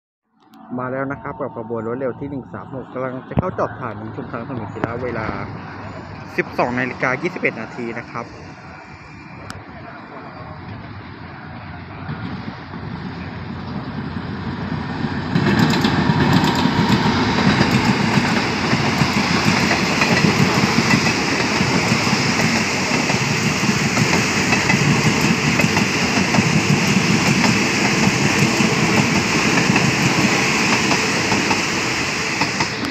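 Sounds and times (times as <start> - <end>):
diesel train passing: 0.6 - 32.9.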